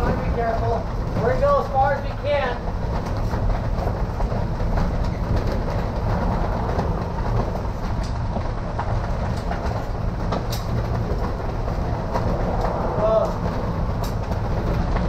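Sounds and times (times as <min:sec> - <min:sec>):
hailstones ticking: 0:00.0 - 0:15.0
storm wind on microphone: 0:00.0 - 0:15.0.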